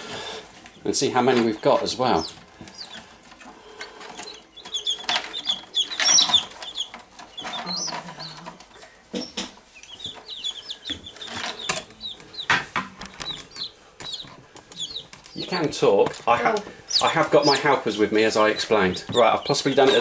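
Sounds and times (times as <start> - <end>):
chicks peeping: 0.0 - 20.0
handling knocks and rustles: 0.6 - 20.0.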